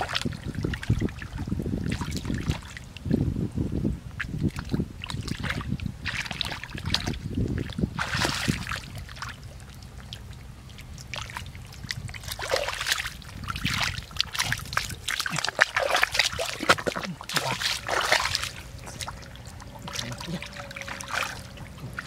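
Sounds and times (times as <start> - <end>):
bare feet squelching in mud: 4.2 - 22.0
hands splashing in muddy water: 4.2 - 22.0.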